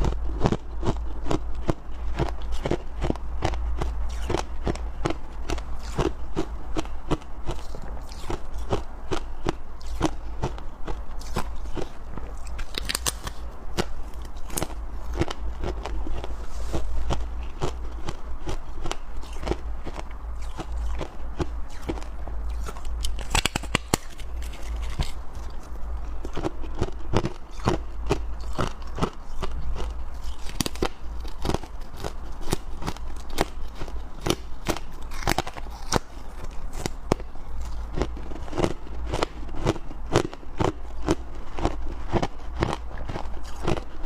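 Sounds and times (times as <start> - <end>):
chewing crunchy frost: 0.0 - 44.0.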